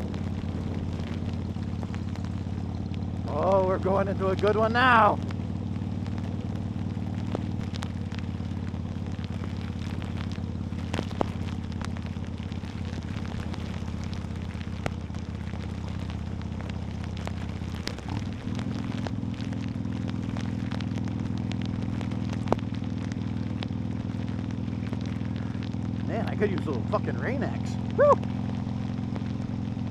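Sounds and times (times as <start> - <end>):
motorcycle engine running: 0.0 - 29.9
rain pattering on microphone: 0.0 - 29.9.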